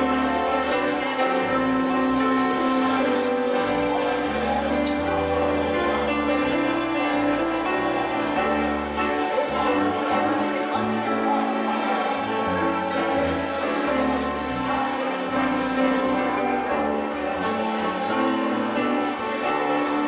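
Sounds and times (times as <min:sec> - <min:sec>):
bass line: 0:00.0 - 0:20.0
music with sustained chords: 0:00.0 - 0:20.0.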